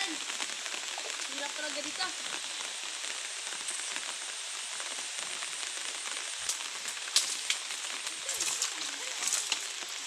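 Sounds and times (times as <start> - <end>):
rain falling on leaves: 0.0 - 10.0.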